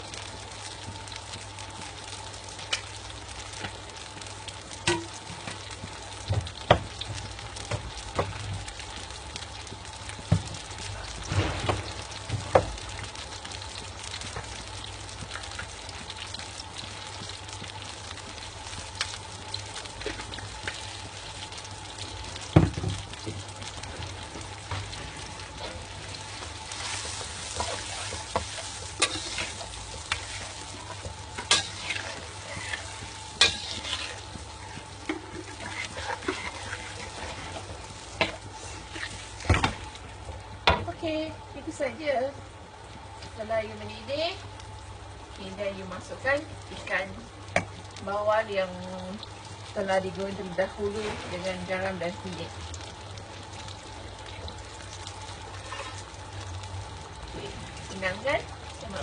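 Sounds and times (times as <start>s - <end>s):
sauce simmering and bubbling: 0.0s - 59.0s.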